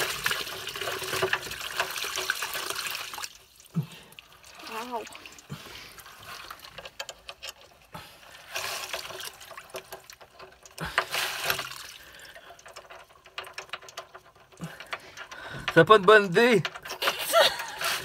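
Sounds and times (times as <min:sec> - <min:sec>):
water splashing and running: 0:00.0 - 0:18.0.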